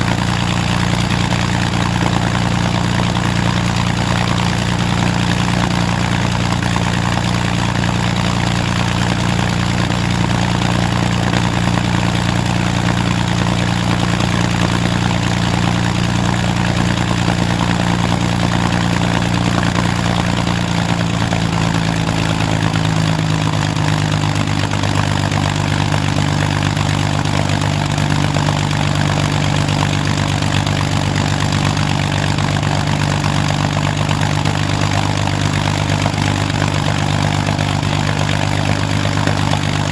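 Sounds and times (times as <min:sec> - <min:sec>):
aircraft engine running: 0:00.0 - 0:39.9.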